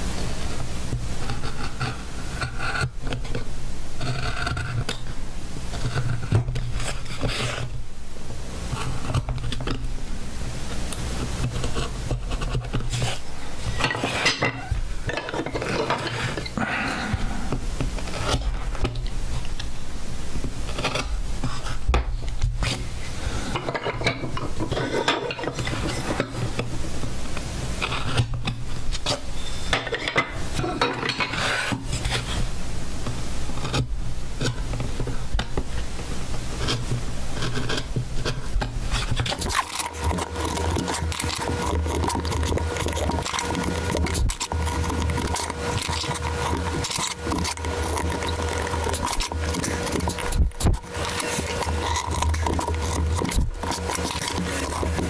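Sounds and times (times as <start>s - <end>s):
carving gouge scraping wood: 0.6s - 7.8s, 8.6s - 9.9s, 10.9s - 19.5s, 20.4s - 26.7s, 27.7s - 32.5s, 33.5s - 35.8s, 36.4s - 55.0s.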